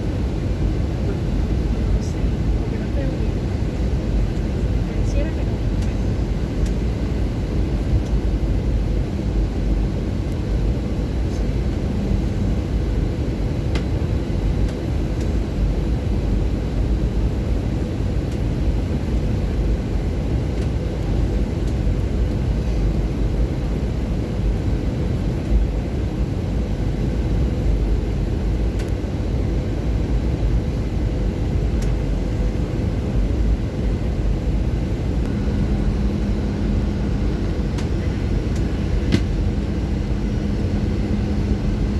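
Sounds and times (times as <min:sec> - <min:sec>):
airplane cabin rumble: 0:00.0 - 0:41.9
faint steady hum: 0:00.0 - 0:41.9.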